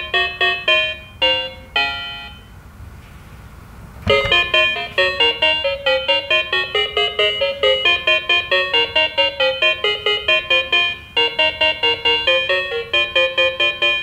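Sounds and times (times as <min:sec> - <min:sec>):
toy car electronic tune: 0:00.0 - 0:02.5, 0:04.1 - 0:14.0.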